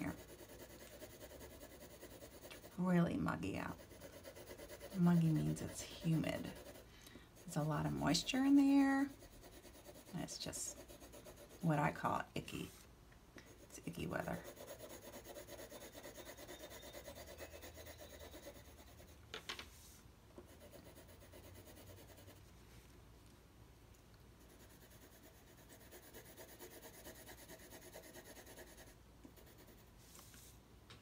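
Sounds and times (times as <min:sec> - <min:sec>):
pencil shading on paper: 0:00.0 - 0:12.8, 0:13.5 - 0:19.2, 0:20.4 - 0:22.4, 0:24.4 - 0:29.8.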